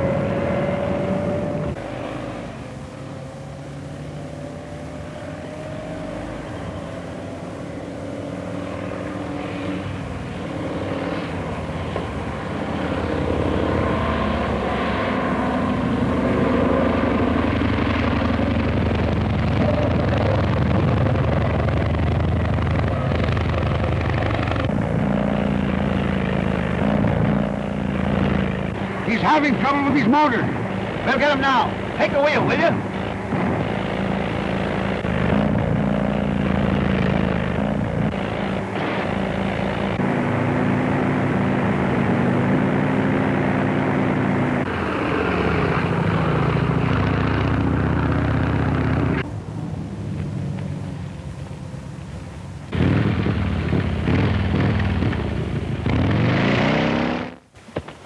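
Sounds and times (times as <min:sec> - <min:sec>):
motorcycle and car engines droning: 0:00.0 - 0:58.0.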